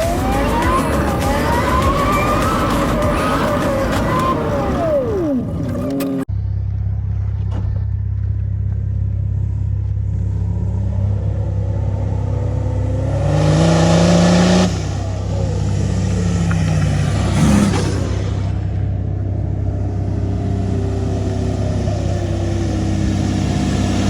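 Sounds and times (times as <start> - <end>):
constant low drone: 0.0 - 13.1, 14.6 - 24.0
off-road engine revving: 0.0 - 24.0.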